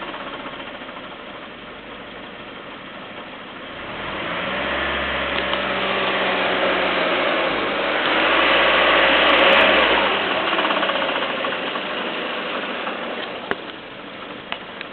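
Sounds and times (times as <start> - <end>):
car engine running: 0.0 - 14.9
engine clattering noise: 0.0 - 14.9.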